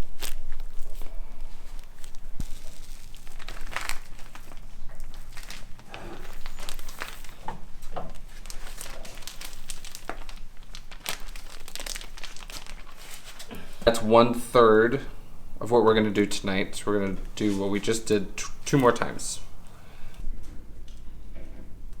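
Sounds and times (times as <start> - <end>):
material crinkling and rustling: 0.0 - 21.1.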